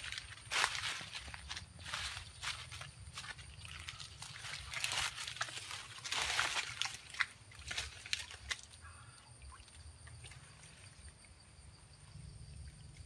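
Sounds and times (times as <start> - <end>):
water splashing at a bank: 0.0 - 13.0.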